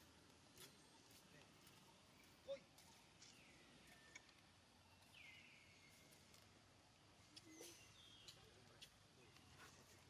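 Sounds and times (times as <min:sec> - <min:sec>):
faint forest ambience: 0:00.0 - 0:10.0.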